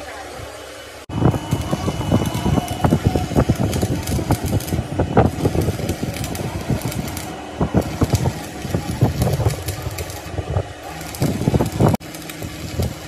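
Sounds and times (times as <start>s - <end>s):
continuous rattle: 1.1s - 13.0s.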